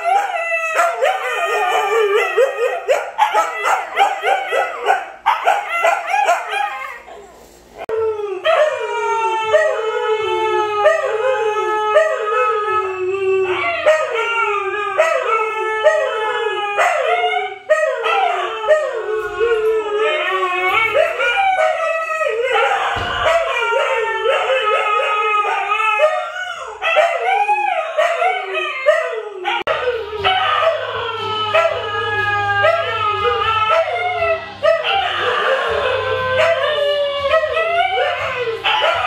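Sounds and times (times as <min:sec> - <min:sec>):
dogs howling together: 0:00.0 - 0:39.0.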